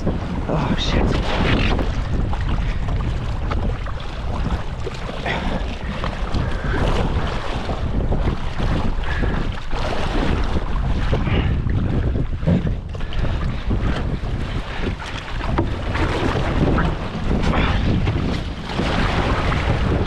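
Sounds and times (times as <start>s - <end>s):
water splashing along hull: 0.0s - 20.0s
wind buffeting microphone: 0.0s - 20.0s.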